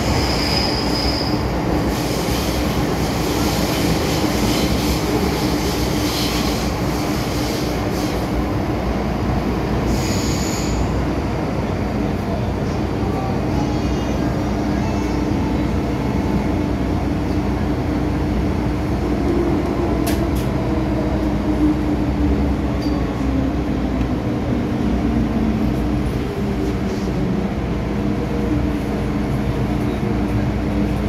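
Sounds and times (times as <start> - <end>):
train wheels and motors rumbling: 0.0 - 31.0.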